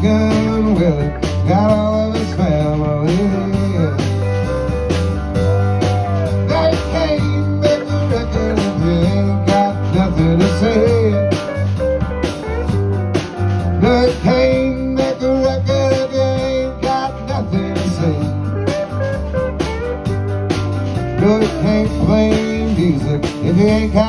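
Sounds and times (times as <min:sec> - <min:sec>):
bending lead guitar line: 0:00.0 - 0:24.0
live country-rock band: 0:00.0 - 0:24.0.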